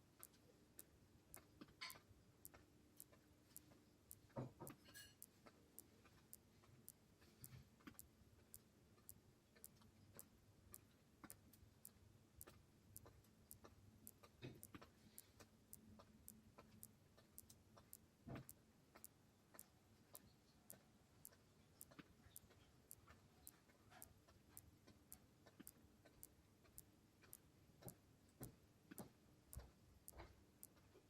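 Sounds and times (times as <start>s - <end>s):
faint steady ticking: 0.0s - 31.0s.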